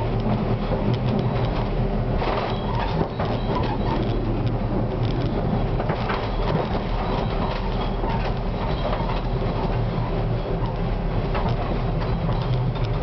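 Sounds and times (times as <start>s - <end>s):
tram wheels rumbling on track: 0.0s - 13.0s.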